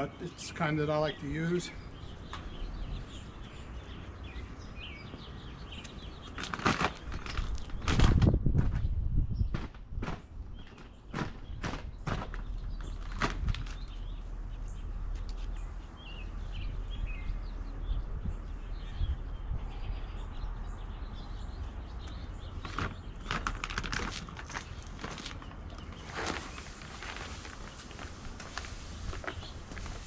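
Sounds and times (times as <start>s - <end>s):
small birds chirping: 0.0s - 30.0s
wind rumbling on microphone: 1.8s - 30.0s.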